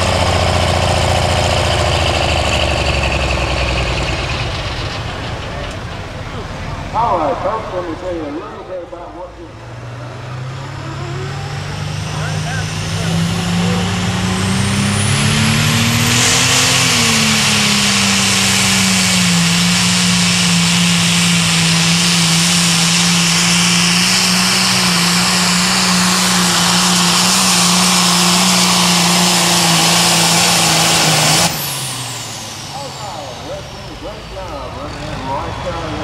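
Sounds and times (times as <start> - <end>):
diesel engine running flat out: 0.0 - 36.0.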